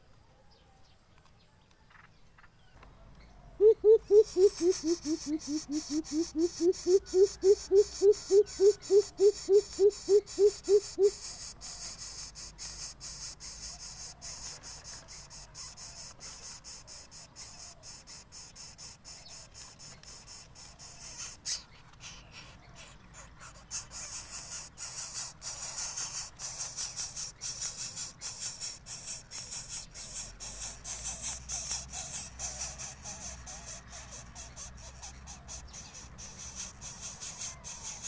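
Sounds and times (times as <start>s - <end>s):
nestlings rasping begging calls: 3.9s - 38.0s.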